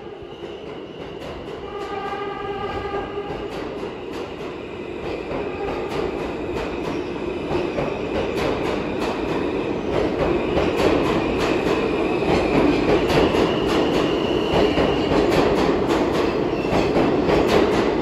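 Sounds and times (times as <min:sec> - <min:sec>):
train wheels clattering over rails: 0:03.2 - 0:18.0.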